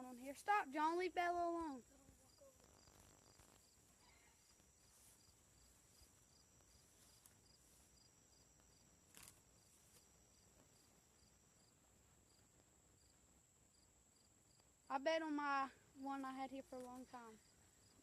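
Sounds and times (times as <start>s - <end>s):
faint insect chirp: 0.0s - 18.0s.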